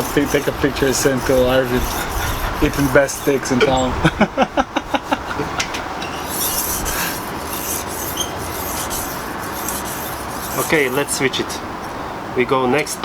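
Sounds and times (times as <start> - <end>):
knife rubbing on whetstone: 0.0 - 3.9, 4.8 - 11.6.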